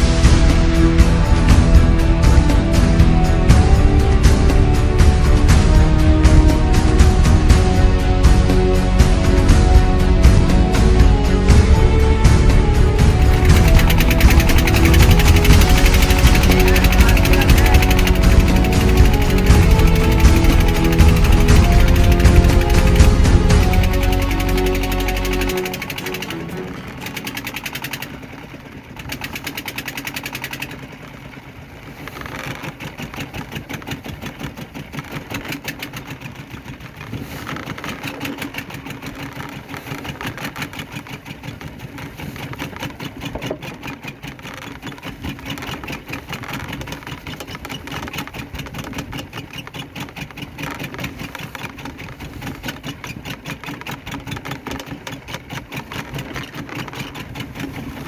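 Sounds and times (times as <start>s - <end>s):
boat engine chugging: 0.0s - 58.0s.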